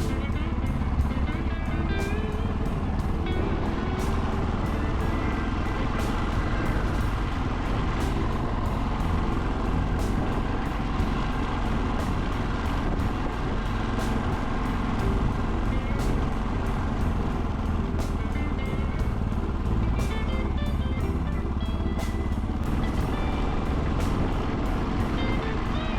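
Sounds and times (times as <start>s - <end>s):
background music with beat: 0.0s - 25.9s
motorcycle engine running: 0.0s - 25.9s.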